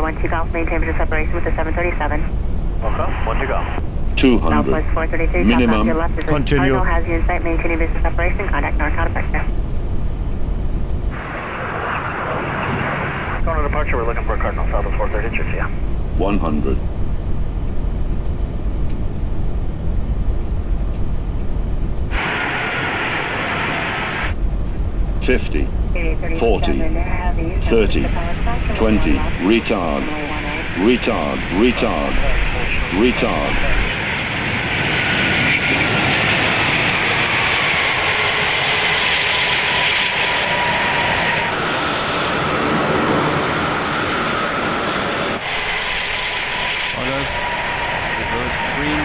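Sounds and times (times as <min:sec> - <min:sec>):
airflow and engine rumble: 0:00.0 - 0:49.0.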